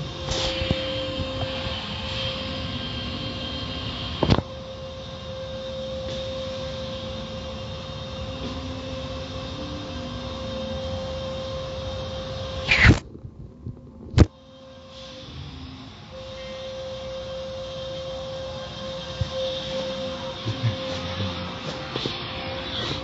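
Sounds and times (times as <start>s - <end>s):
constant hum: 0.0s - 23.0s.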